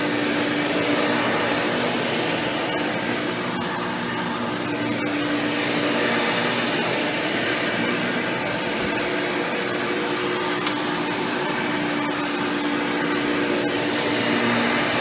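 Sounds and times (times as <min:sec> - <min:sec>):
upright vacuum cleaner running: 0:00.0 - 0:15.0.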